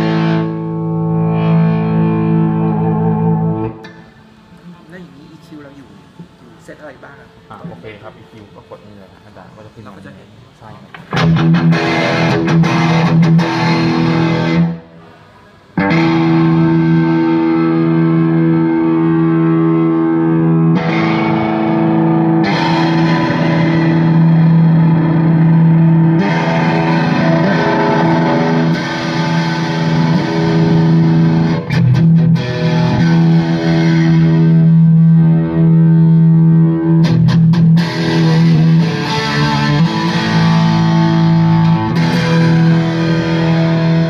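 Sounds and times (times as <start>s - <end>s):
distorted electric guitar chords: 0.0s - 4.9s, 10.9s - 44.0s.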